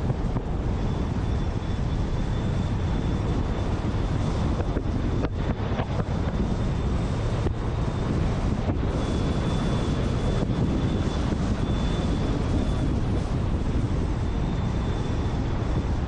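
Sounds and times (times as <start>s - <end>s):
car road and wind noise: 0.0s - 16.0s
faint high whine: 0.0s - 16.0s.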